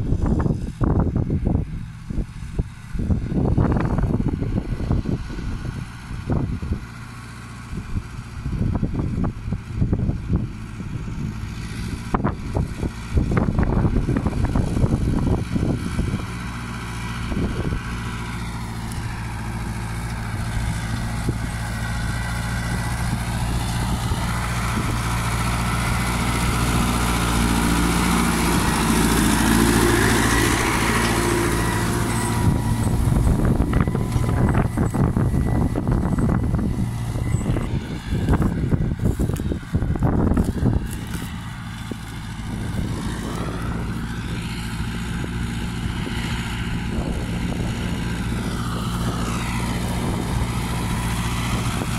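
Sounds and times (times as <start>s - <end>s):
tractor diesel engine running: 0.0s - 51.9s
wind buffeting microphone: 0.0s - 51.9s.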